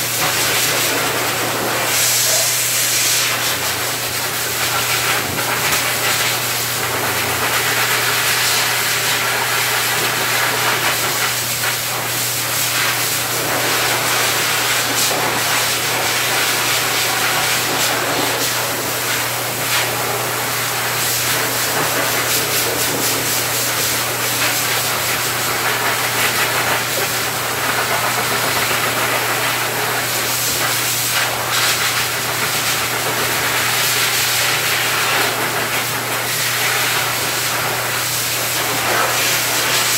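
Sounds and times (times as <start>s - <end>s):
blower dryer rush of air: 0.0s - 39.9s.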